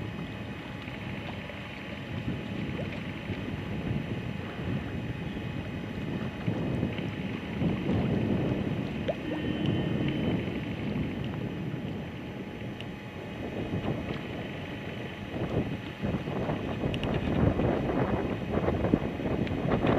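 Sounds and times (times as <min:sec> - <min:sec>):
wind on microphone: 0:00.0 - 0:19.9.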